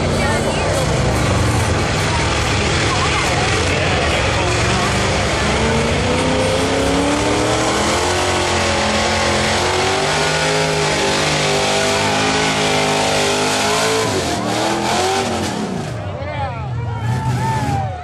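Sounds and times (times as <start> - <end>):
truck engine at high revs: 0.0 - 18.0.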